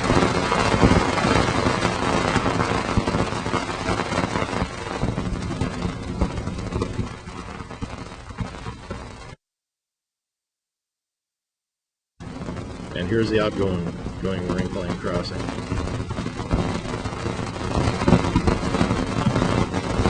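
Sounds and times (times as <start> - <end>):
rumbling crackling hiss: 0.0 - 9.4, 12.2 - 20.0.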